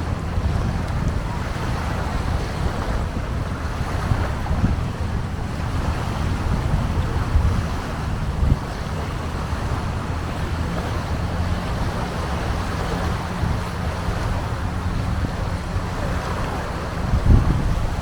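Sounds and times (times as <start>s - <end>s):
boat engine running: 0.0s - 18.0s
wind buffeting microphone: 0.0s - 18.0s.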